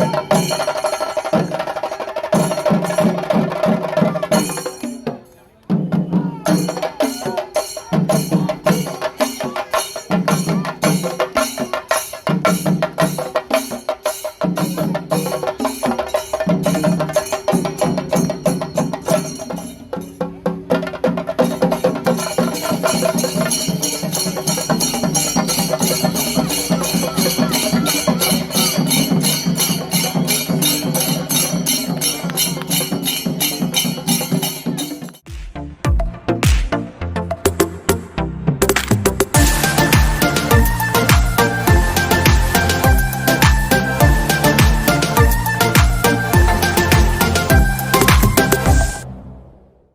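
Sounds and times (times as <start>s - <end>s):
drum ensemble playing fast rhythm: 0.0s - 49.0s.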